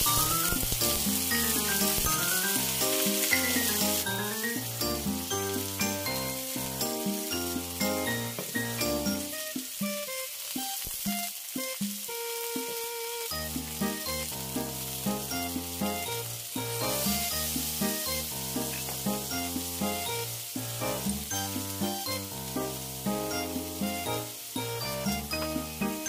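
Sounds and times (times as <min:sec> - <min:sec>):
background music: 0:00.0 - 0:26.0
food sizzling in a wok: 0:00.0 - 0:26.0.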